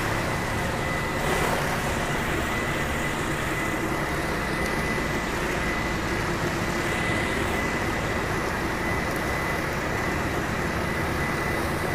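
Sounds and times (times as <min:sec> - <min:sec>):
pressure washer running: 0:00.0 - 0:11.9.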